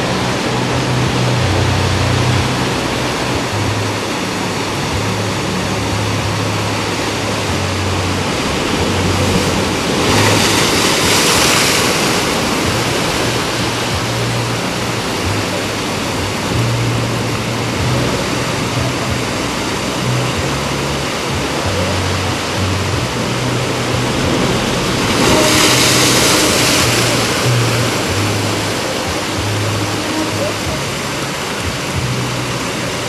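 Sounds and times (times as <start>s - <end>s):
low rumble: 0.0s - 33.0s
surf washing over rocks: 0.0s - 33.0s.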